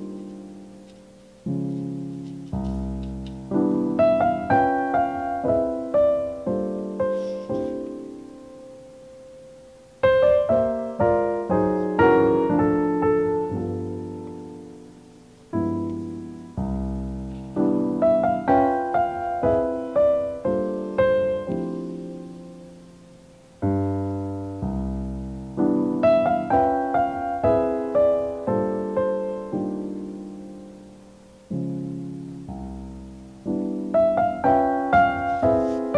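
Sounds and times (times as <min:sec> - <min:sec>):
solo piano music: 0:00.0 - 0:35.9.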